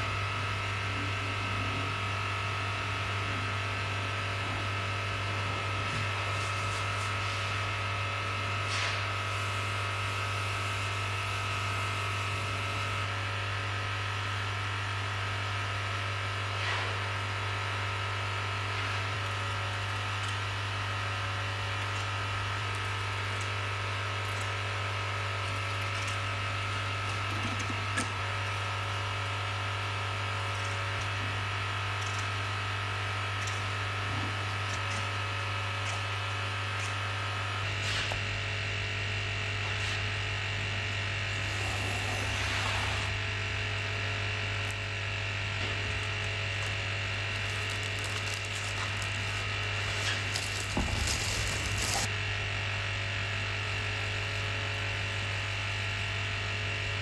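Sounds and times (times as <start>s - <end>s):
electric vacuum pump humming: 0.0s - 57.0s.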